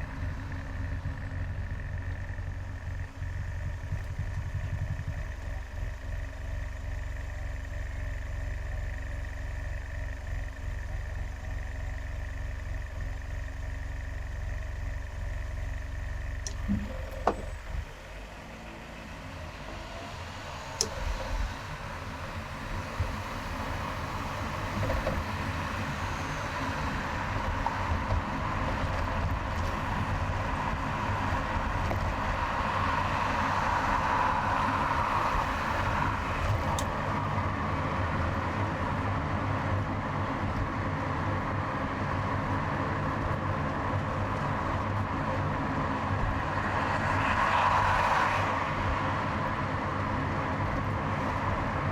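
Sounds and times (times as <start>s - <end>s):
car engine hum: 0.0s - 51.9s
tyre and road noise: 0.0s - 51.9s.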